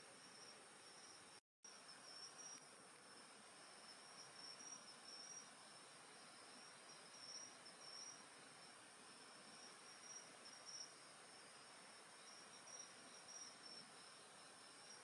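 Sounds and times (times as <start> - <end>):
crickets trilling: 0.2 - 15.0.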